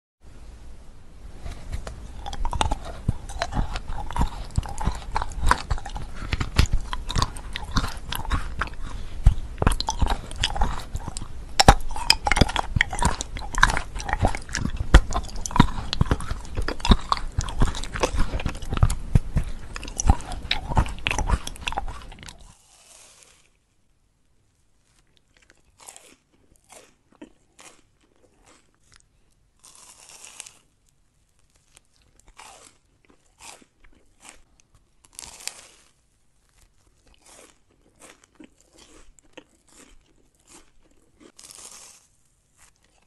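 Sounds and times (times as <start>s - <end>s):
chocolate shells crunching: 1.8s - 23.6s, 25.0s - 43.0s.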